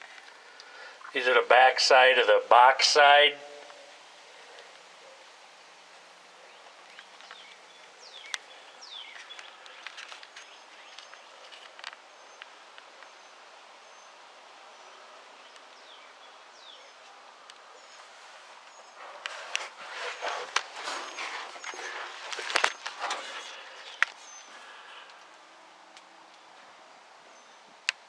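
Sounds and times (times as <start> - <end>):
birds chirping: 0.0 - 17.1, 17.7 - 25.2.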